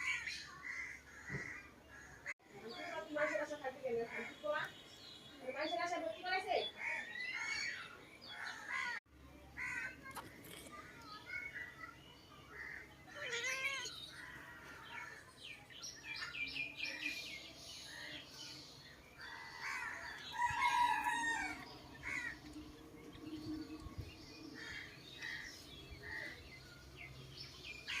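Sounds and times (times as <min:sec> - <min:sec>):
birds singing and chirping: 0:00.0 - 0:09.0, 0:09.6 - 0:28.0.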